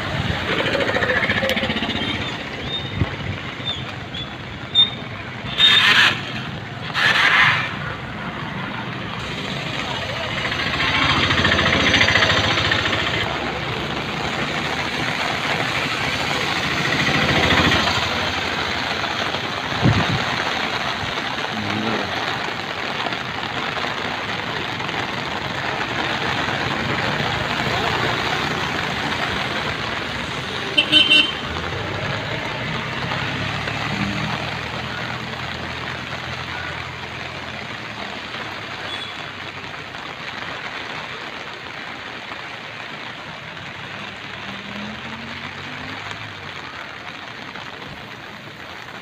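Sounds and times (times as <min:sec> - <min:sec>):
heavy rain: 0:00.0 - 0:49.0
steady rushing background noise: 0:00.0 - 0:49.0.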